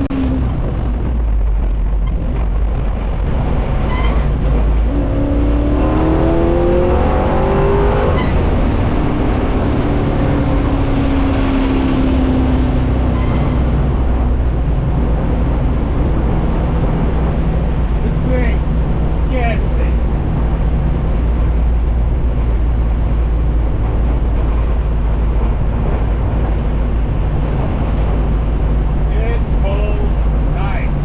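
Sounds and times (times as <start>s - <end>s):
car engine rumbling and revving: 0.0s - 31.0s.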